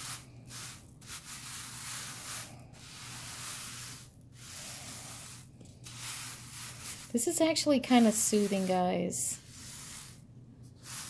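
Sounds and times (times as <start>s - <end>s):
brush sweeping: 0.0s - 11.0s
rhinestones scratching and rattling: 0.0s - 11.0s.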